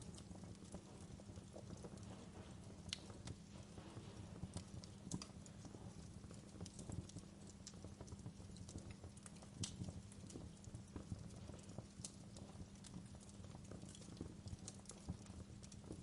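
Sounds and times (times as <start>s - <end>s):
fire popping and snapping: 0.0s - 16.0s
fireplace fire crackling: 0.0s - 16.0s
low rumble of flames: 0.0s - 16.0s.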